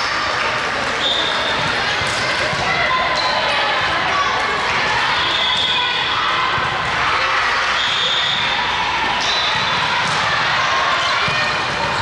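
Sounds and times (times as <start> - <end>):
players' voices and shouts: 0.0 - 12.0
volleyballs hit and bouncing: 0.1 - 7.8, 8.9 - 12.0.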